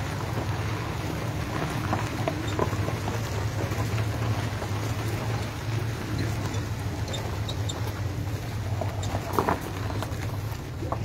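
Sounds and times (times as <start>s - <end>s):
car engine rolling past: 0.0s - 11.0s.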